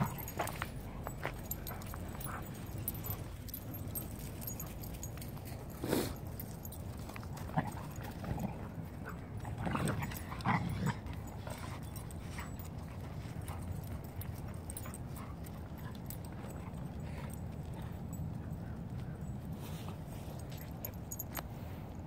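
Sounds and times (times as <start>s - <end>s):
dogs making play noises: 0.0s - 22.0s
dogs play-wrestling: 0.0s - 22.0s.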